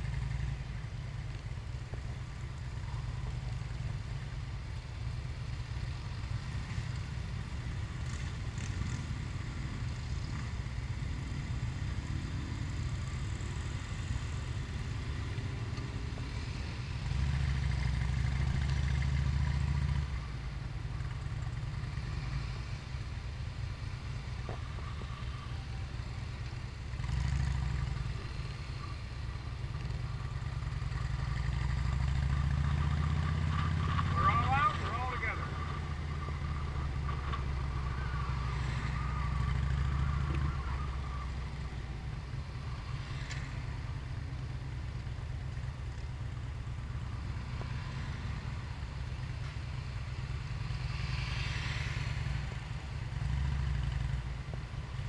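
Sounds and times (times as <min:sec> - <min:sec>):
low motorcycle engine rumble: 0:00.0 - 0:55.0
motorcycle engines idling and pulling away: 0:00.0 - 0:55.0.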